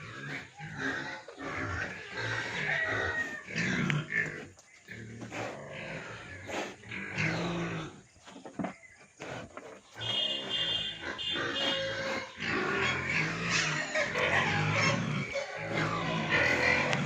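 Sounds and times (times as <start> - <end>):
pigs grunting and squealing: 0.0 - 8.4, 9.0 - 17.0.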